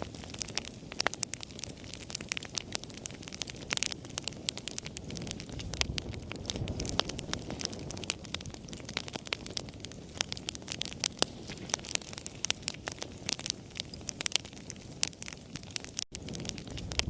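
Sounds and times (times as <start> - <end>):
rush of flames: 0.0 - 17.0
wood fire crackling and popping: 0.0 - 17.0.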